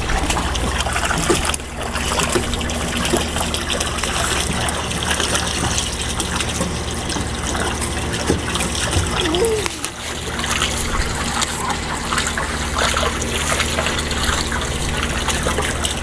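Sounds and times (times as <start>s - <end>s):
running water splashing: 0.0s - 16.0s.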